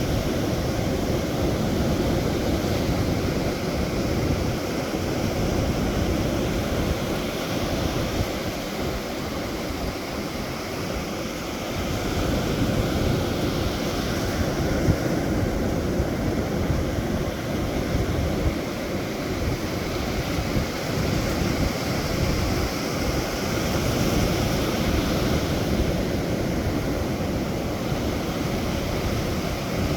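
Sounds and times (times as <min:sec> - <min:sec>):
sea waves washing on shore: 0:00.0 - 0:29.9
wind buffeting microphone: 0:00.0 - 0:29.9.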